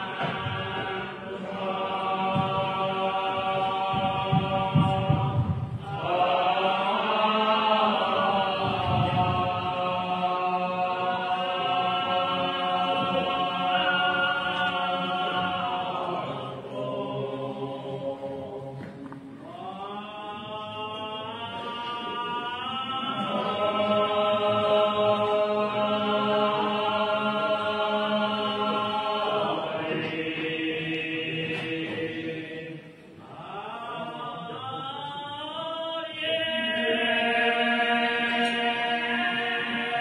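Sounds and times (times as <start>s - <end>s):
voices singing a religious chant: 0.0s - 40.0s.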